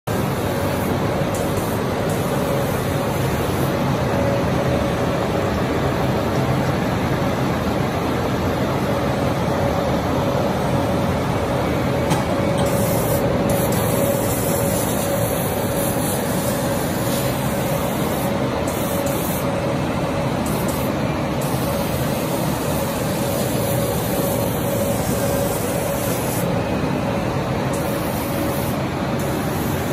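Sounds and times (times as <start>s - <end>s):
laser cutting machine running: 0.1s - 29.9s.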